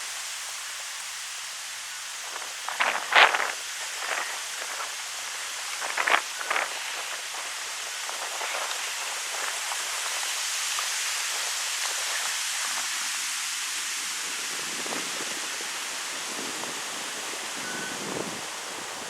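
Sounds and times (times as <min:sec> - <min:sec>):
wind through tree leaves: 0:00.0 - 0:19.0.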